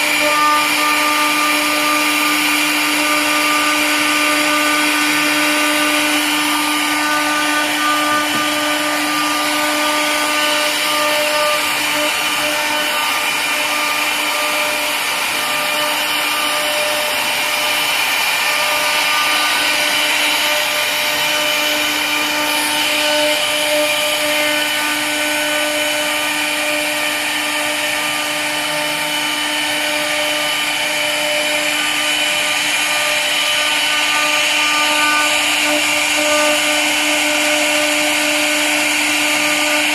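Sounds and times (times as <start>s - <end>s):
router bits cutting wood: 0.0s - 39.9s
router spindles whining: 0.0s - 39.9s.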